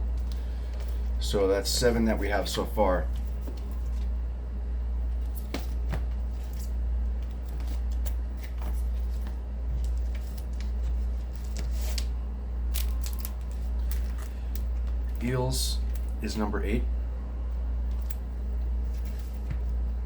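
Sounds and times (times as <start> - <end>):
record jackets rustling and clicking: 0.0 - 4.3, 5.0 - 16.3, 17.8 - 20.0
steady low hum: 0.0 - 20.0.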